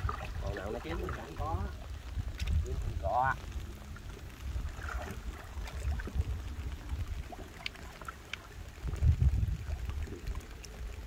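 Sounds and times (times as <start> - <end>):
shallow water sloshing: 0.0 - 11.0.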